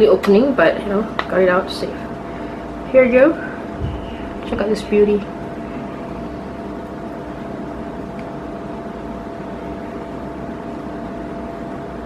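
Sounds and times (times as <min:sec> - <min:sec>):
room background hum: 0:00.0 - 0:12.0.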